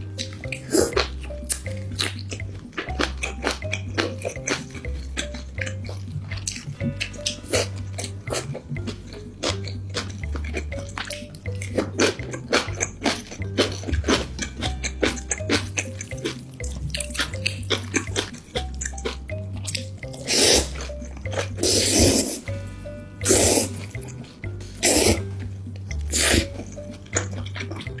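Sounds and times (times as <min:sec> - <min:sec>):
wet chewing clicks: 0:00.0 - 0:22.6, 0:23.2 - 0:28.0
background music with bass line: 0:00.0 - 0:28.0.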